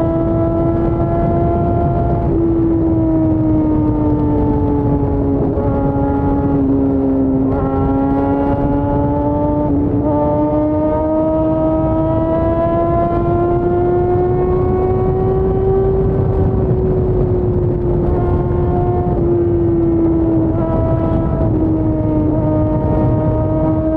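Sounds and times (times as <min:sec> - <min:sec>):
low wind rumble: 0:00.0 - 0:23.9.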